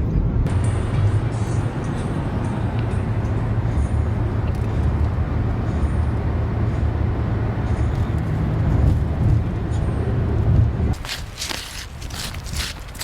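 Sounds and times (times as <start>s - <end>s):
car road noise from inside: 0.1s - 13.0s.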